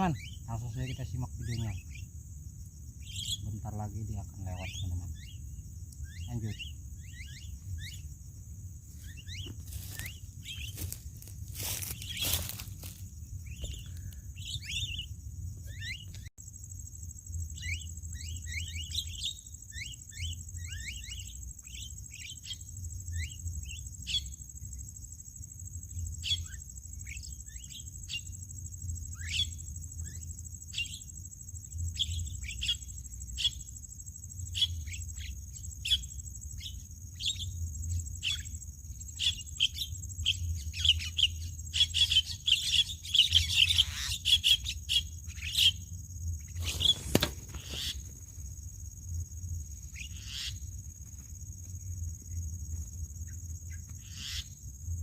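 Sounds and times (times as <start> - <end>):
starlings chirping: 0.0 - 16.3, 17.5 - 24.5, 26.2 - 52.4, 53.1 - 54.7.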